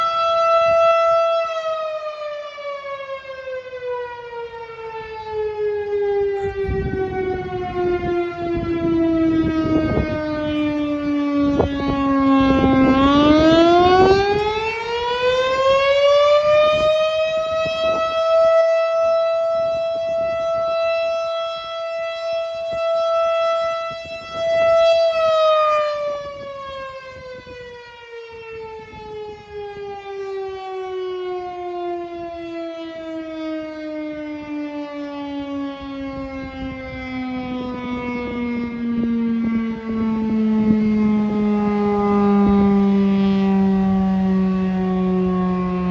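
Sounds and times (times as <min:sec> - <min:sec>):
fire siren winding: 0:00.0 - 0:45.9.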